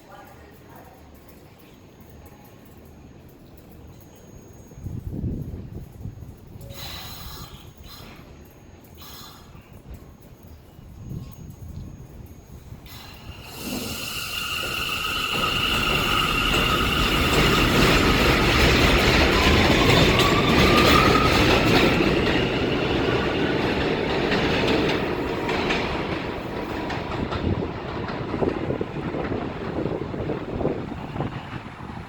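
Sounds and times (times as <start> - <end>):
train wheels squealing and clattering: 3.6 - 31.7.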